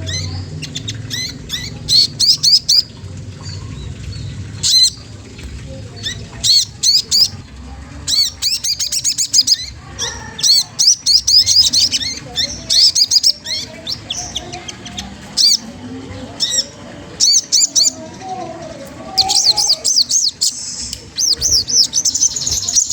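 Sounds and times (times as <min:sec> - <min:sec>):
songbird chirps and trills: 0:00.0 - 0:22.9.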